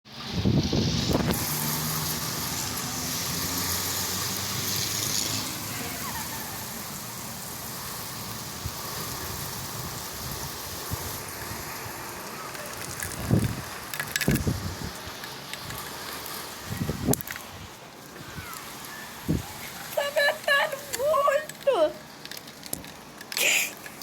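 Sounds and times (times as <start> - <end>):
motor vehicle hum and hiss: 0.1 - 24.0
rainstorm: 0.1 - 24.0.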